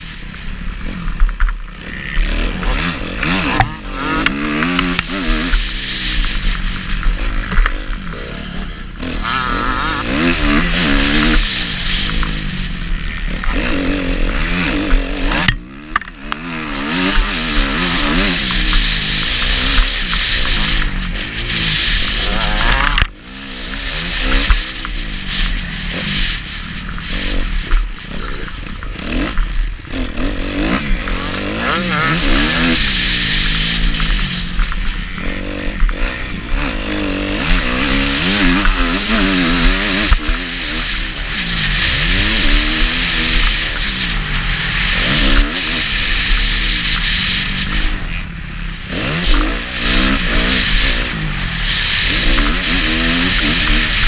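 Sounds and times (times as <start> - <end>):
motocross engine revving: 0.0 - 54.0
noisy rush: 0.0 - 54.0.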